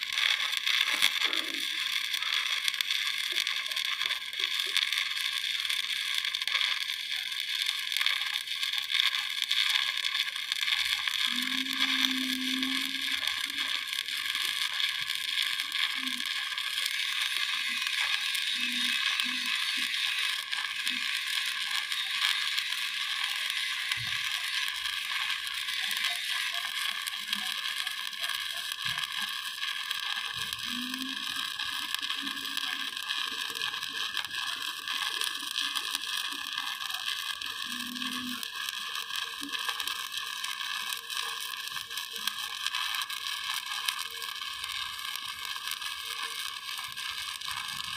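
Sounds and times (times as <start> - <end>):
welding arc crackling: 0.0 - 47.9.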